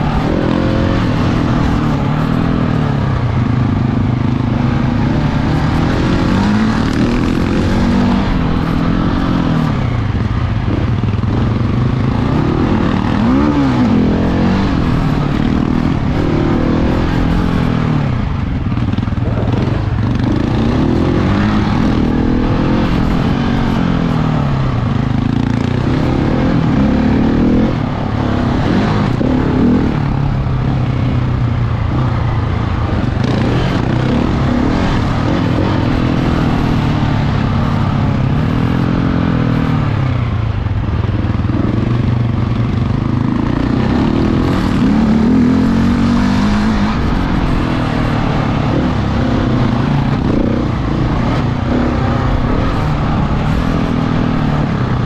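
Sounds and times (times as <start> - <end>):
off-road motorcycle engine revving: 0.0 - 55.0.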